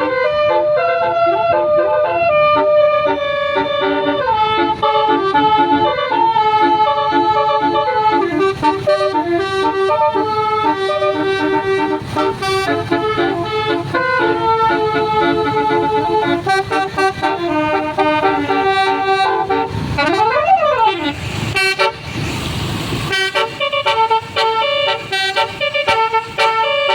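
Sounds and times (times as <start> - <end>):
low rumble of bus: 0.0 - 26.9
multi-tone bus horn melody: 0.0 - 26.9.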